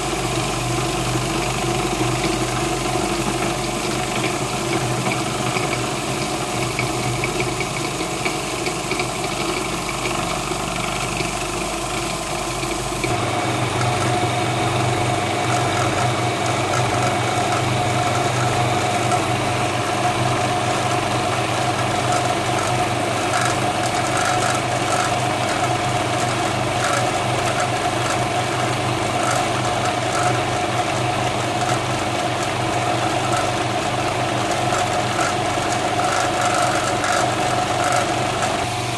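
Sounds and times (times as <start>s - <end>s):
food processor grinding: 0.0s - 38.9s.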